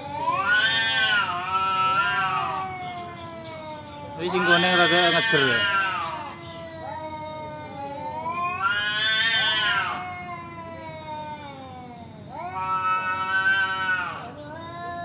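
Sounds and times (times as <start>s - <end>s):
cats yowling: 0.0s - 15.0s
low continuous moan: 0.0s - 15.0s.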